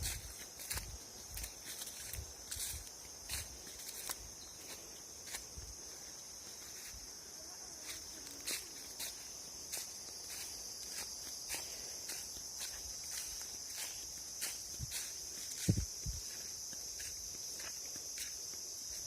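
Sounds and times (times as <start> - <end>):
footsteps crunching on path: 0.0 - 19.0
high-pitched insect drone: 0.0 - 19.0.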